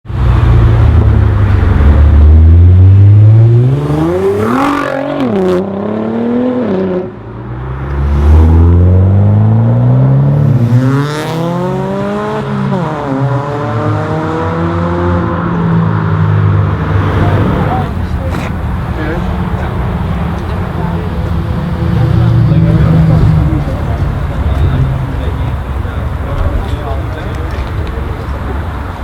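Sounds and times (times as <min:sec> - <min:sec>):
car engine revving: 0:00.2 - 0:28.8.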